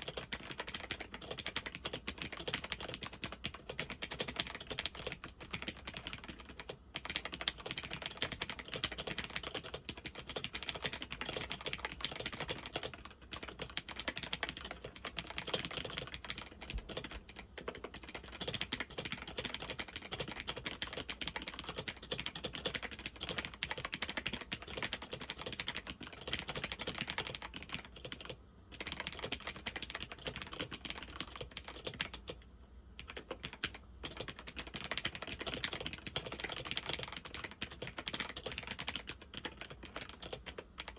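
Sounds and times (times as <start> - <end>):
laptop keyboard typing: 0.0 - 40.9.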